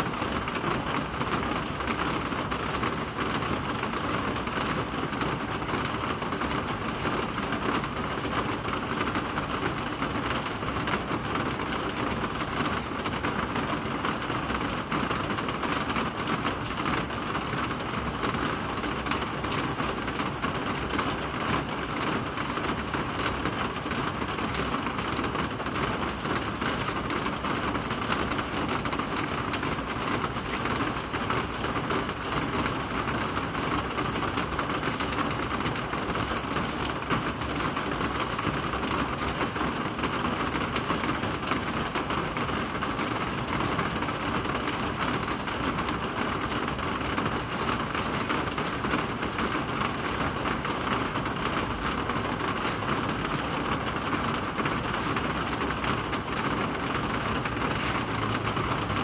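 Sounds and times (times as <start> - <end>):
rain falling steadily: 0.0 - 59.0.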